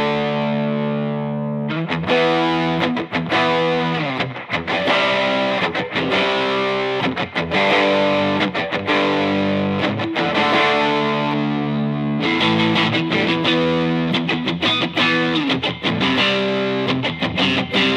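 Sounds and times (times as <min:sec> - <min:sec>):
electric guitar chords: 0:00.0 - 0:17.9.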